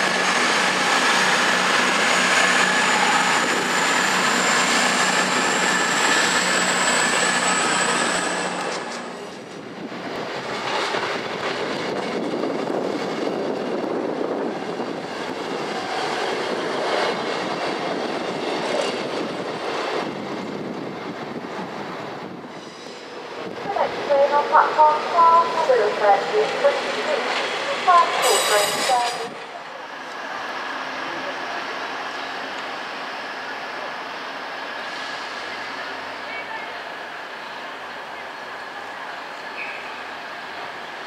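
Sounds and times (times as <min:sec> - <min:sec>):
train running on rails: 0:00.0 - 0:41.0.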